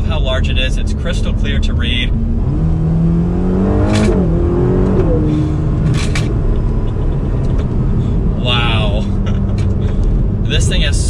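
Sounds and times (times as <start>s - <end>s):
car engine accelerating: 0.0s - 11.0s
tyre and road noise: 0.0s - 11.0s.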